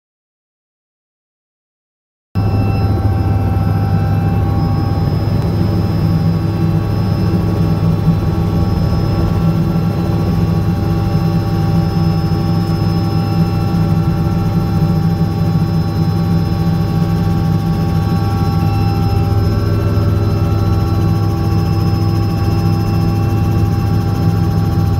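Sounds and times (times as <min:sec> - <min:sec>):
helicopter rotor and engine drone: 0:02.4 - 0:24.9.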